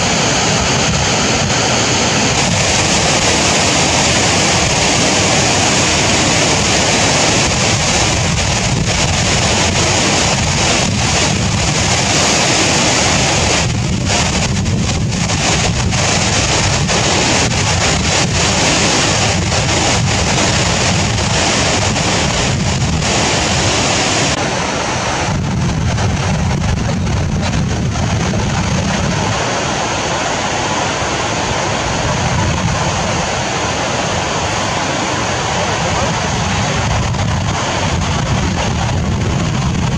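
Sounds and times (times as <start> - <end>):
water rushing down dam spillway: 0.0 - 39.9.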